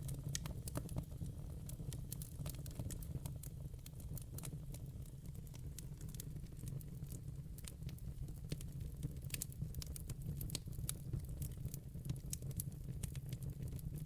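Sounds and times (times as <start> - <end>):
low rumble of flames: 0.0 - 13.8
fire crackles and pops: 0.0 - 14.0.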